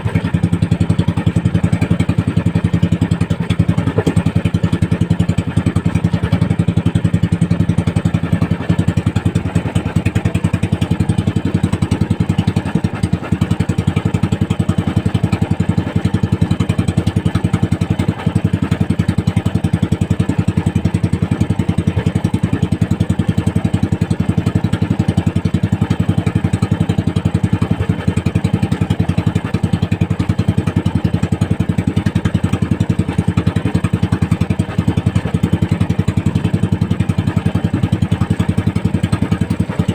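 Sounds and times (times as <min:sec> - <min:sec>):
boat engine putter: 0:00.0 - 0:39.9.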